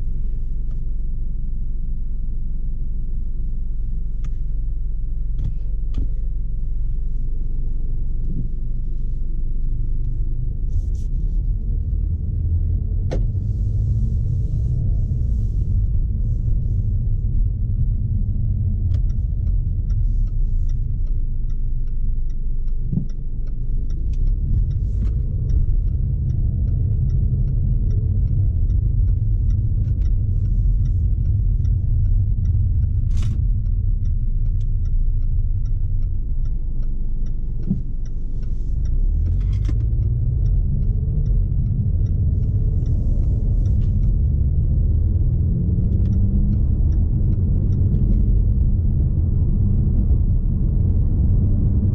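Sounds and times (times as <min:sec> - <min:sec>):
car engine: 0:00.0 - 0:51.9
light ticking: 0:00.0 - 0:51.9
road noise rumble: 0:00.0 - 0:51.9.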